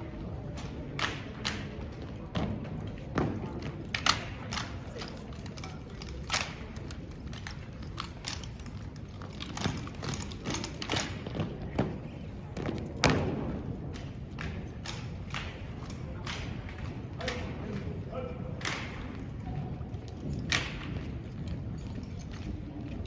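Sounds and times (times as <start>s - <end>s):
murmur of voices in hall: 0.0s - 23.0s.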